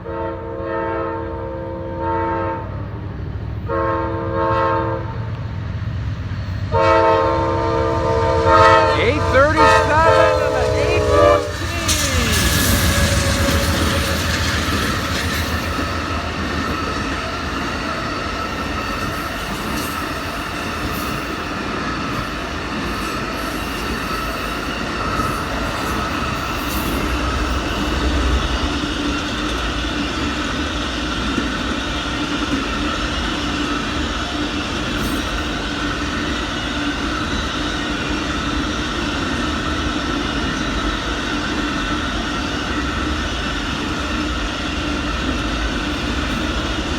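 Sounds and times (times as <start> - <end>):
train wheels rumbling on track: 1.2 - 46.9.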